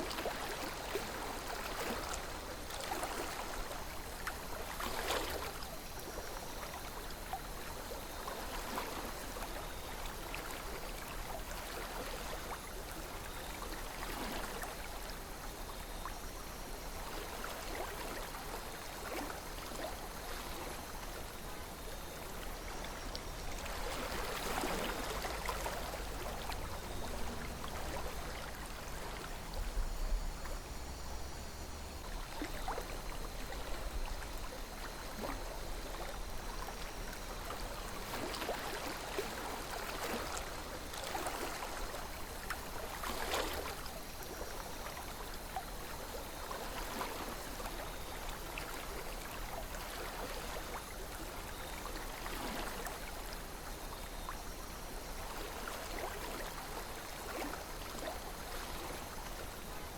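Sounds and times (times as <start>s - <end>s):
river water flowing: 0.0s - 59.9s
water gurgles and splashes: 0.0s - 59.9s.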